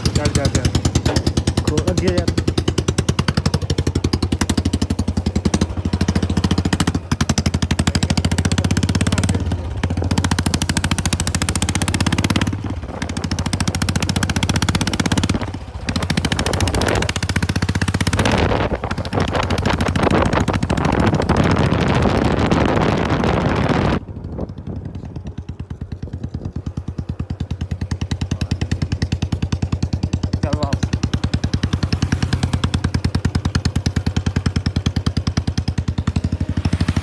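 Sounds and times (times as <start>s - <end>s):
motorcycle open exhaust popping: 0.0s - 37.0s.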